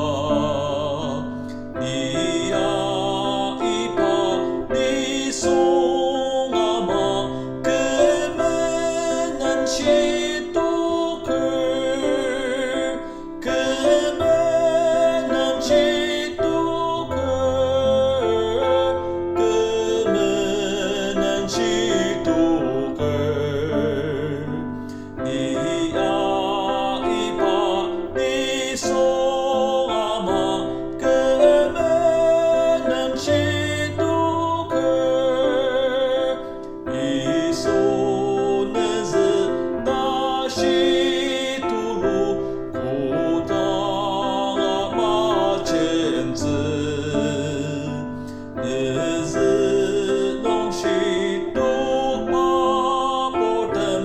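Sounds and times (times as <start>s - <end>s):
keyboard accompaniment: 0.0s - 54.0s
person singing with vibrato: 0.0s - 54.0s.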